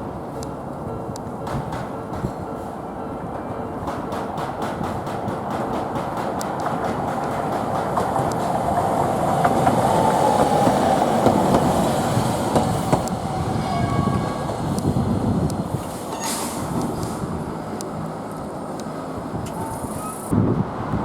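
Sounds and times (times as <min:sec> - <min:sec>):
tram passing: 0:00.0 - 0:21.0.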